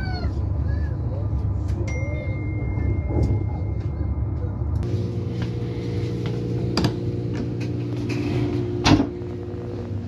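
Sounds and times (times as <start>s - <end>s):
train running hum: 0.0s - 10.0s.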